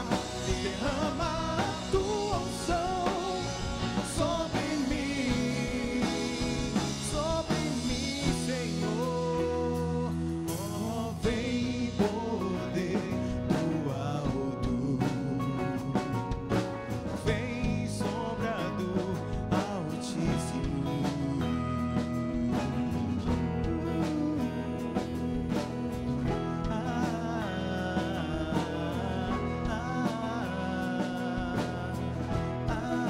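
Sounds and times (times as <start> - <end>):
band playing: 0.0 - 33.0
person singing: 0.0 - 33.0.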